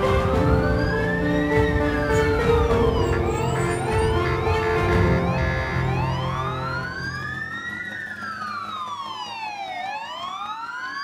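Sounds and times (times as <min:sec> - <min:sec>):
fire engine siren wailing: 0:00.0 - 0:11.0
music: 0:00.0 - 0:11.0.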